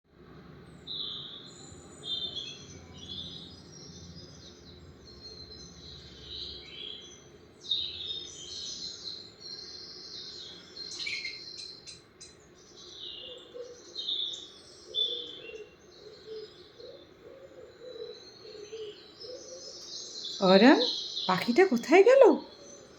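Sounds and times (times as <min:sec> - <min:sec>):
birds chirping and singing: 0:00.7 - 0:22.9.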